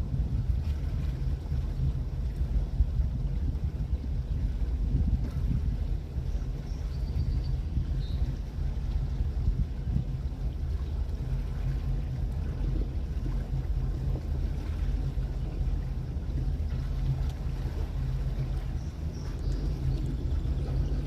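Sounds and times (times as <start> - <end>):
boat engine humming: 0.0 - 21.0
water noise: 0.0 - 21.0
wind noise: 0.0 - 21.0.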